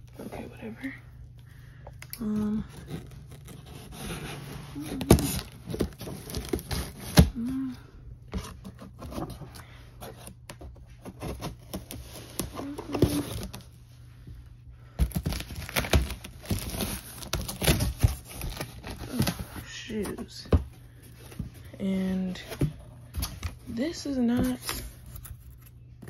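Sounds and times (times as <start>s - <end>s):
cardboard rustling: 2.6s - 7.5s, 8.3s - 13.8s, 14.9s - 26.0s.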